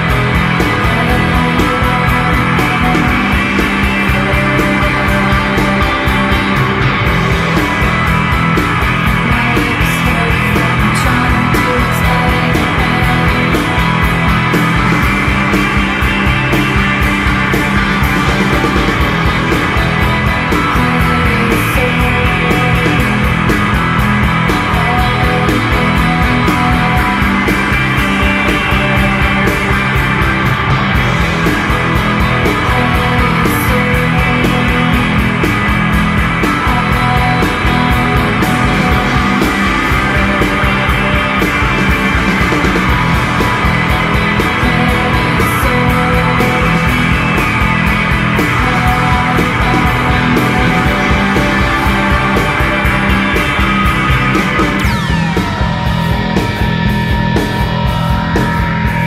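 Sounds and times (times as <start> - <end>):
distorted electric guitars: 0.0 - 59.0
steady drum beat: 0.0 - 59.0.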